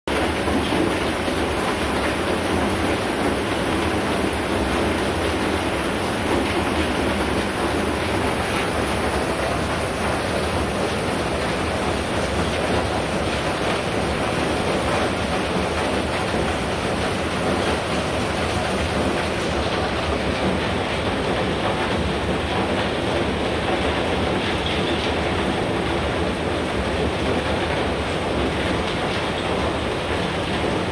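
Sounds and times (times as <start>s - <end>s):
heavy rain on wet paving: 0.1s - 30.9s.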